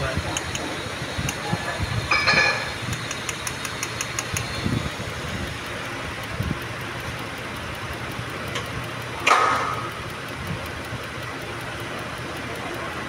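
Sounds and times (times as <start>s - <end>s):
car engine idling: 0.0s - 13.0s
fast light ticking: 0.2s - 13.0s.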